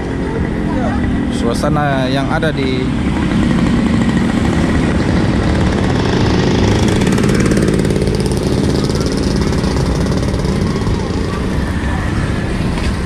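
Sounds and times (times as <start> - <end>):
road traffic: 0.0 - 13.0
small engine running: 2.5 - 13.0.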